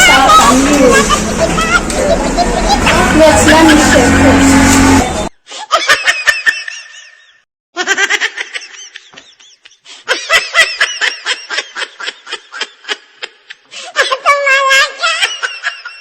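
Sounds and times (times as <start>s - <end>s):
person laughing: 0.0s - 4.5s, 5.5s - 14.3s.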